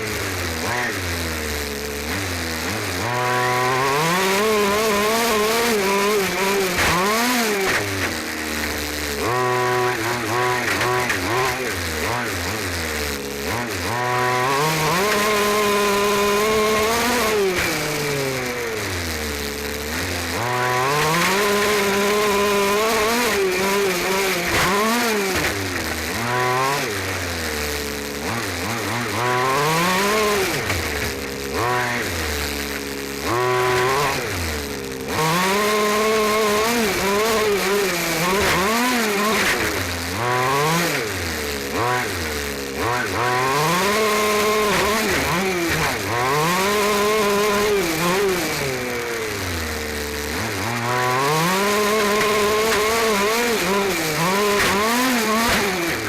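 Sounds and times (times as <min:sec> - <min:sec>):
two-stroke engine revving: 0:00.0 - 0:56.0.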